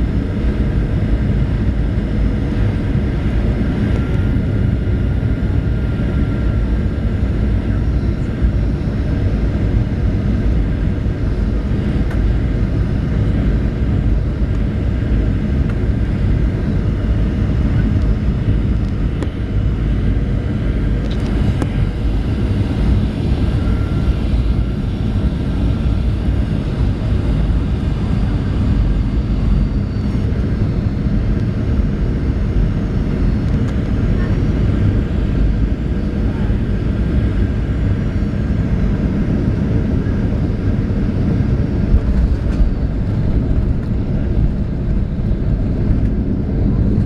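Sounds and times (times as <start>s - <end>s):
jet engine rumble: 0.0s - 47.0s.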